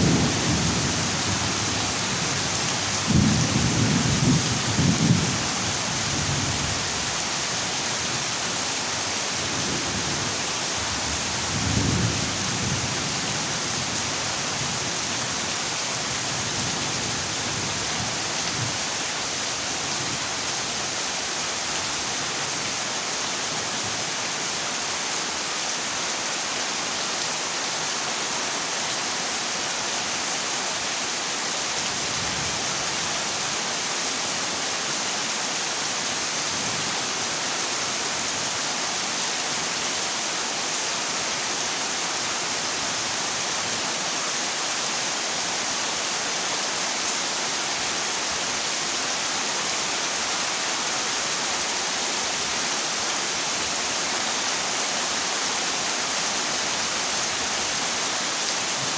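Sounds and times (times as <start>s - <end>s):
heavy rain on a metal roof: 0.0s - 58.9s.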